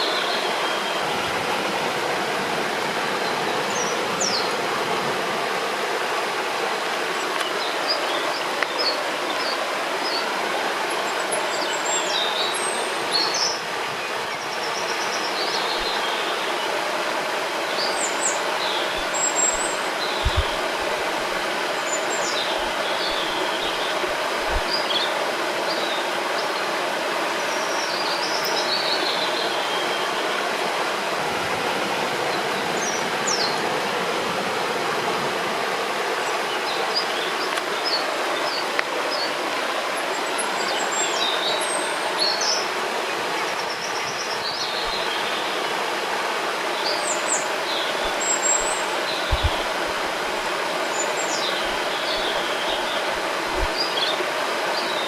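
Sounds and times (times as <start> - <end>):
songbirds chirping: 0.0 - 31.2, 31.8 - 55.0
river rushing: 0.0 - 55.0.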